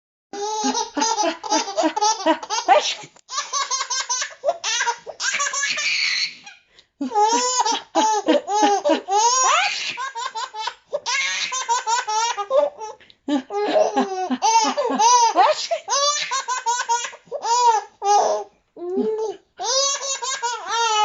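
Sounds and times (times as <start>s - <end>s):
baby laughing and squealing: 0.4s - 21.0s.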